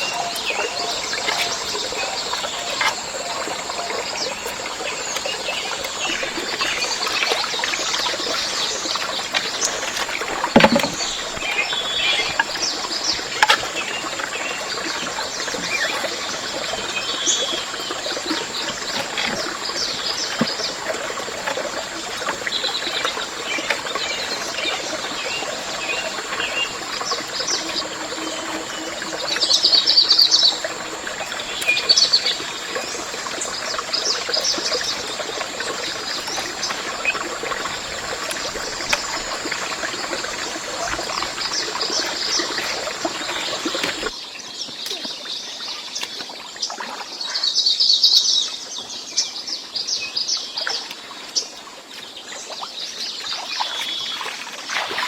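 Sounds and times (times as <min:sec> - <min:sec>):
birds chirping: 0:00.0 - 0:44.2.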